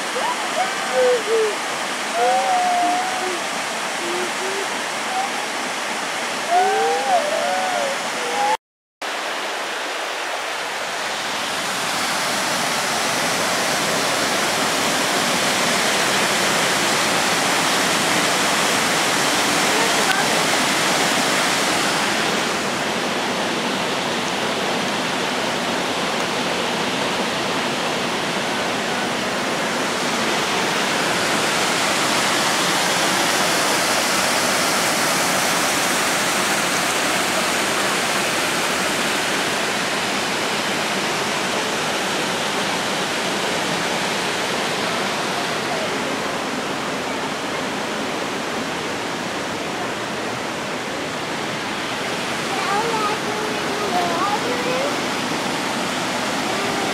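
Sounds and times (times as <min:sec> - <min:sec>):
waterfall and river rushing: 0:00.0 - 0:56.9.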